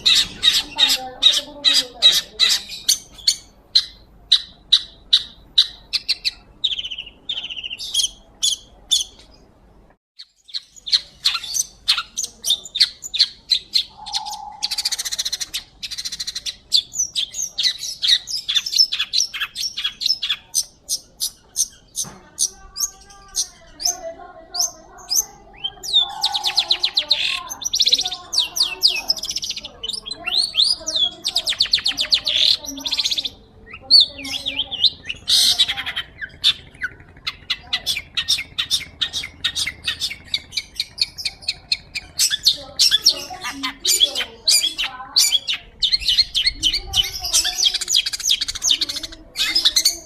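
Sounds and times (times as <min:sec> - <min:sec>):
bird singing trills and chatter: 0:00.0 - 0:50.0.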